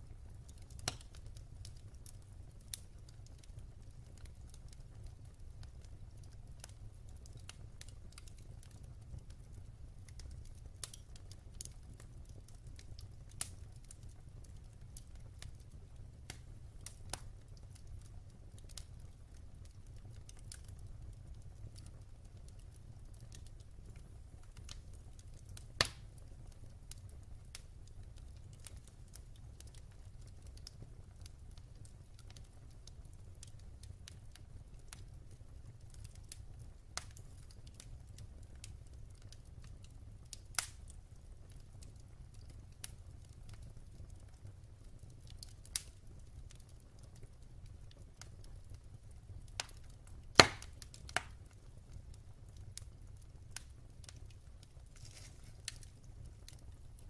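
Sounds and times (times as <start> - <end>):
fire crackles and pops: 0.0 - 57.0
fire rumbling: 0.0 - 57.0.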